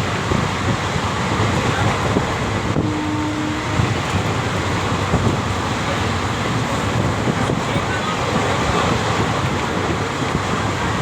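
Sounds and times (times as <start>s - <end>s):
moving passenger train rumble: 0.0s - 11.0s.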